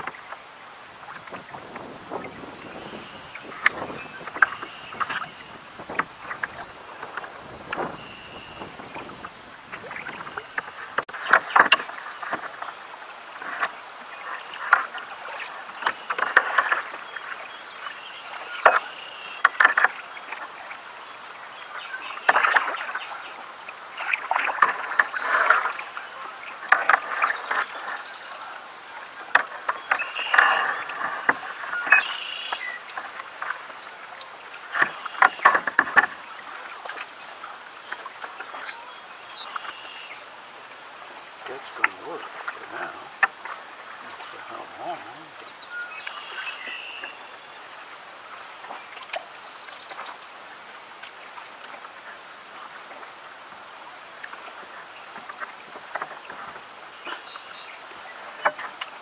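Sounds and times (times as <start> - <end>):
kayak paddle splashing water: 0.0 - 59.0.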